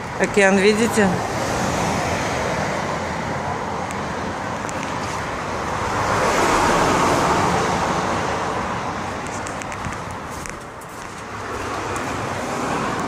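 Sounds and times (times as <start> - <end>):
road traffic noise: 0.0 - 13.0
vehicle passing: 0.0 - 13.0.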